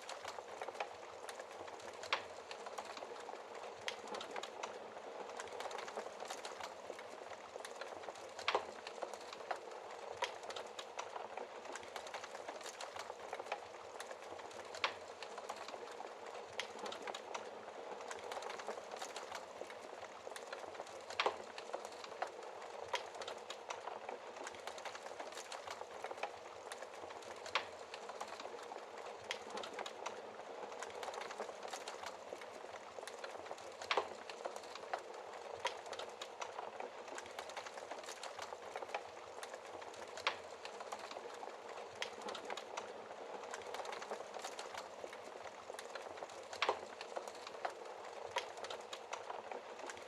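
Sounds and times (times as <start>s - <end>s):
fire sharp snaps and pops: 0.0s - 50.0s
wood fire crackling: 0.0s - 50.0s.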